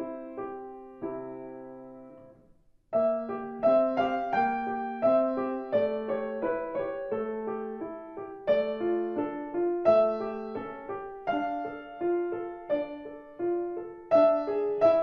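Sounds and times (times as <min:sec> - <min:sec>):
solo piano piece: 0:00.0 - 0:15.0.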